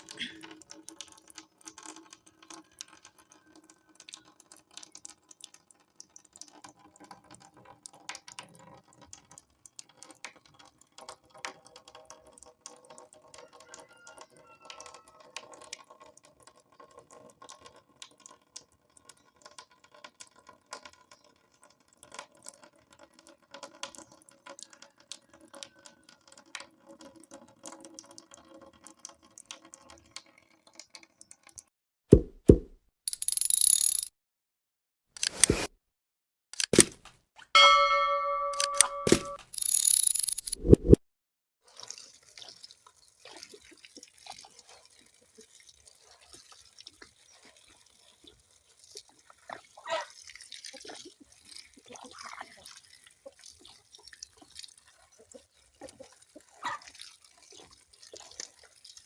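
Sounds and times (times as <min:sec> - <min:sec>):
water dripping and splashing: 0:00.0 - 0:31.7, 0:41.6 - 0:59.0.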